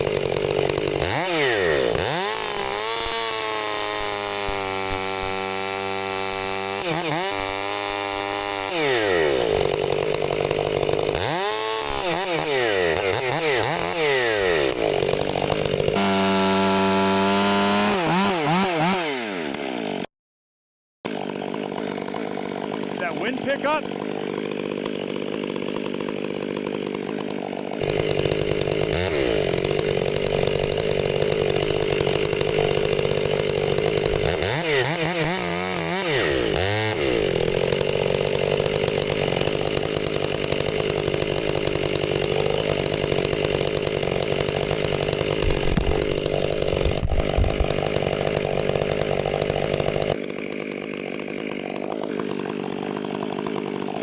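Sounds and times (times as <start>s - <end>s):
chainsaw cutting wood: 0.0s - 20.1s, 21.0s - 54.0s.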